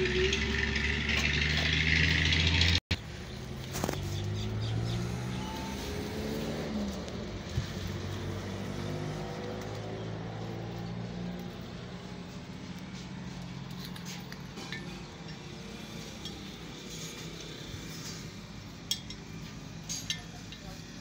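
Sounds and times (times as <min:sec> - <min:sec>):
distant engines humming: 0:00.0 - 0:21.0.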